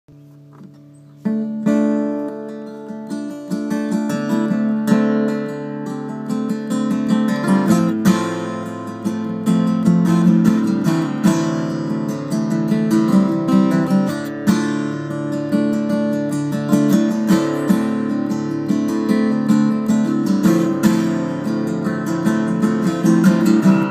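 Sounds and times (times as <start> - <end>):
acoustic guitar riff: 0.1 - 23.9.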